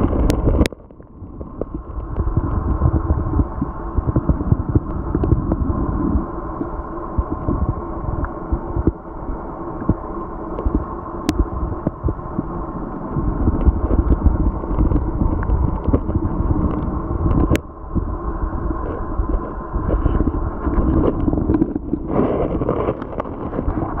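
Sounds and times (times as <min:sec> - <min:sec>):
small underwater clicks: 0:00.0 - 0:05.7, 0:06.5 - 0:09.1, 0:09.7 - 0:18.1, 0:18.7 - 0:24.0
faint hum: 0:00.0 - 0:24.0
underwater low rumble: 0:00.0 - 0:24.0.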